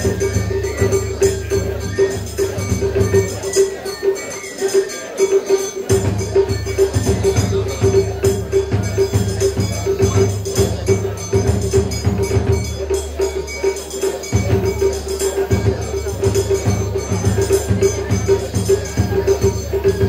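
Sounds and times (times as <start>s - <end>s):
metallic jingling: 0.0s - 20.0s
pulsing ringing tone: 0.0s - 20.0s.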